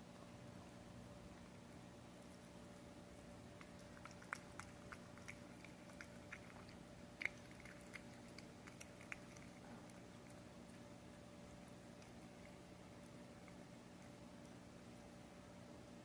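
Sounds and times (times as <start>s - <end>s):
faint steady hum: 0.0s - 16.0s
cat chewing and licking: 1.3s - 16.0s.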